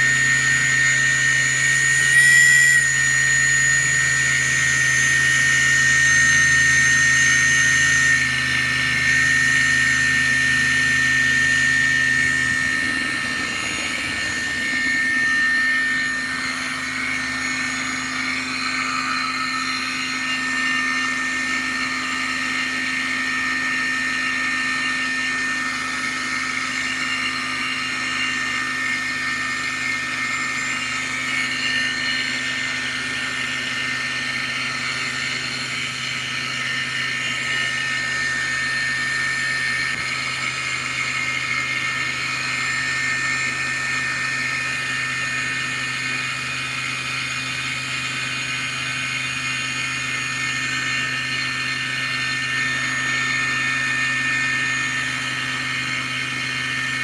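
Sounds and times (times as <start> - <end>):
electric motor whining: 0.0 - 57.0.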